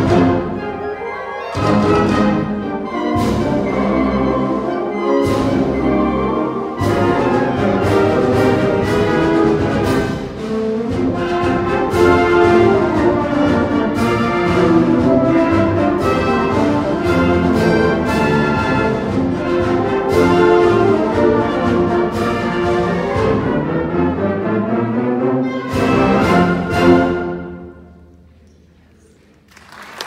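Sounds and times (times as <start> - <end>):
concert band playing a march: 0.0 - 28.1.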